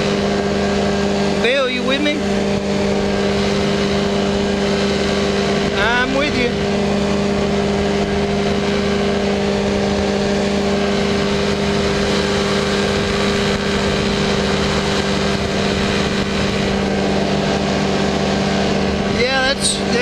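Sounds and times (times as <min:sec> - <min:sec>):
aircraft engine droning: 0:00.0 - 0:20.0
rushing air: 0:00.0 - 0:20.0.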